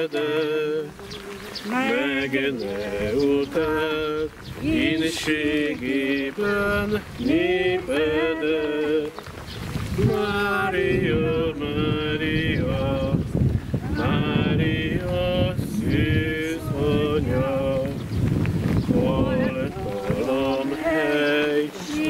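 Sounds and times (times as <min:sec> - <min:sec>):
voices singing a hymn: 0:00.0 - 0:22.0.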